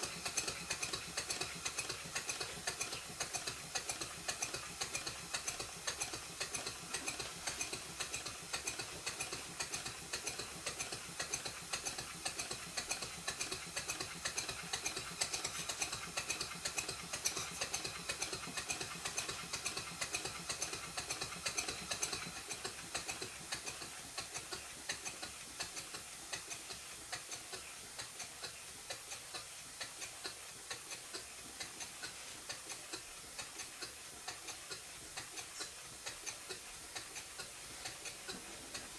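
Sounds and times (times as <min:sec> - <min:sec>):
model steam engine ticking: 0:00.0 - 0:38.9.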